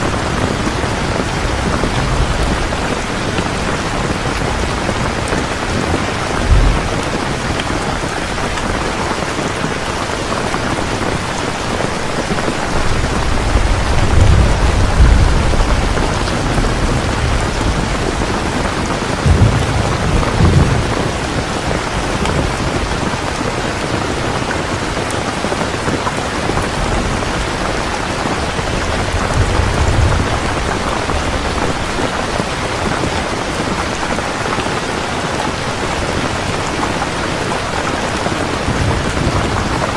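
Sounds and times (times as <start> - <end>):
thunder rumbling: 0.0 - 34.1, 37.4 - 39.9
heavy rain falling: 0.0 - 39.9.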